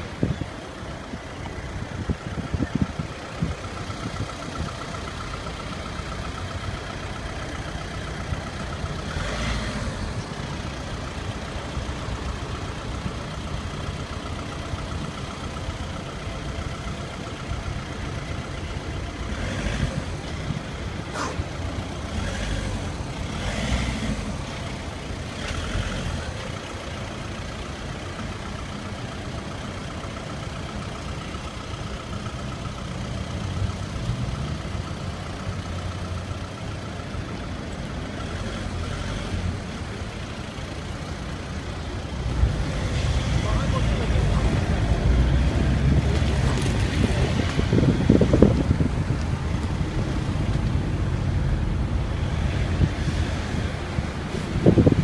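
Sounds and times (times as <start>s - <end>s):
car engine and road rumble: 0.0s - 55.0s
passing traffic: 0.0s - 55.0s.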